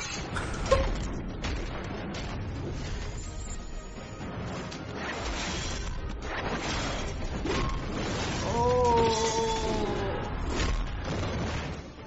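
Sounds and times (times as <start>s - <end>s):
dramatic orchestral score: 0.0s - 12.0s.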